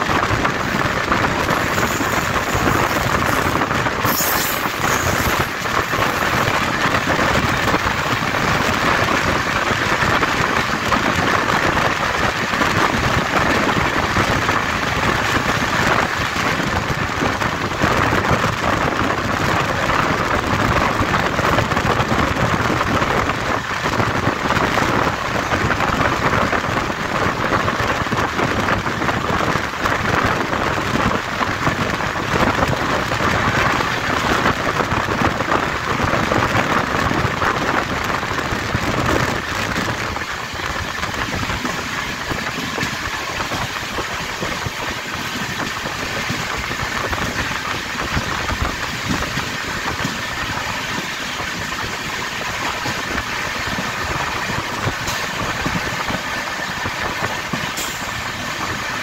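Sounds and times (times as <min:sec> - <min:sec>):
passenger train running: 0:00.0 - 0:59.0.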